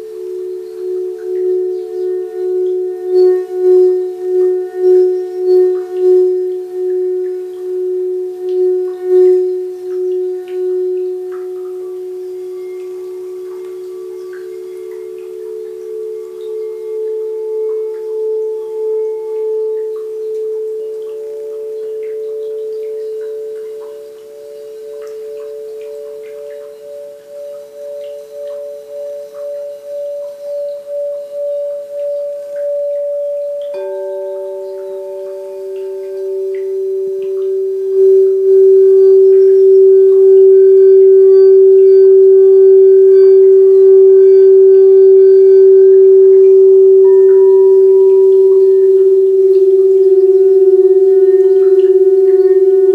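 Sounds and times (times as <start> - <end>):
crystal singing bowls ringing: 0.0 - 52.9
lower-pitched singing bowl: 0.0 - 52.9.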